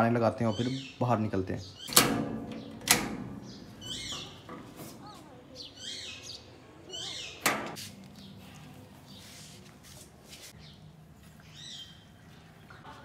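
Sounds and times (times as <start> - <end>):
small birds chirping: 0.2 - 9.7, 10.5 - 13.0.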